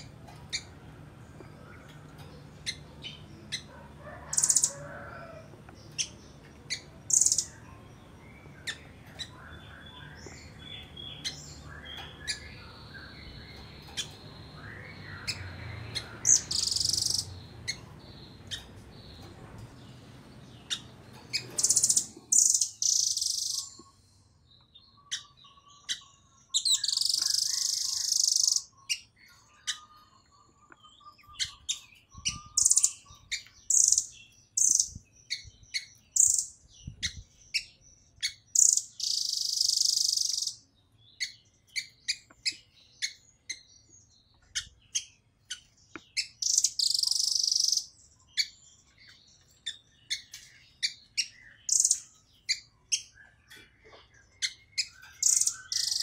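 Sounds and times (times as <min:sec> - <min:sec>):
bird high-pitched calls: 0:01.4 - 0:19.4, 0:20.6 - 0:24.2, 0:24.8 - 0:43.7, 0:44.3 - 0:56.0.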